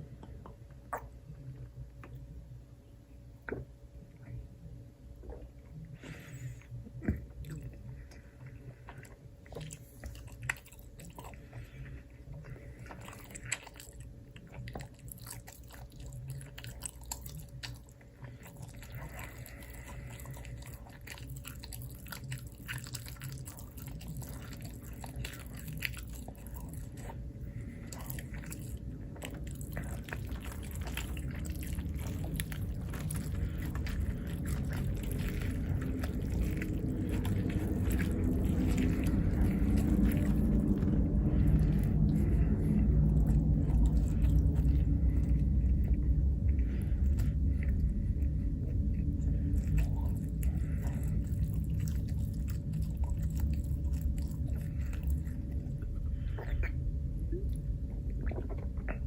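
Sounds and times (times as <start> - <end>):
low hum: 0.0 - 59.0
chewing and crunching: 5.1 - 59.0.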